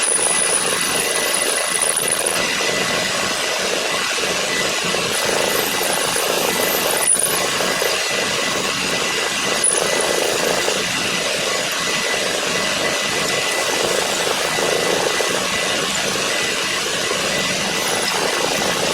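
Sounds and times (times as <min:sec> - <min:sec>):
power tool running: 0:00.0 - 0:18.9.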